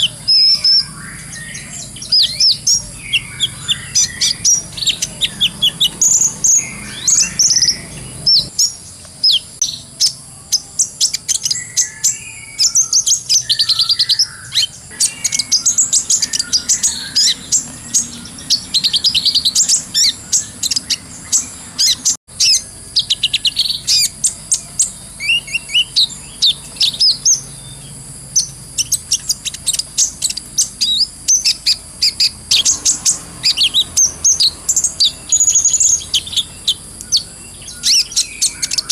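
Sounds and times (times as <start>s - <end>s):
bird singing high chirps and trills: 0.0s - 38.9s.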